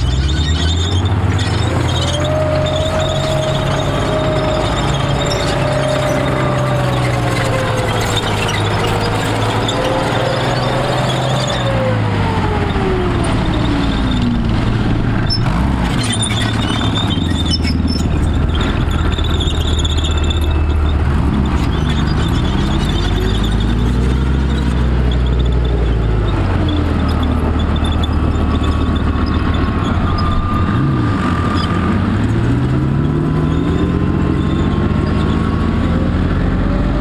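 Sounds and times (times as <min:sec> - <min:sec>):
heavy vehicle squeal: 0:00.0 - 0:37.0
low engine hum: 0:00.0 - 0:37.0.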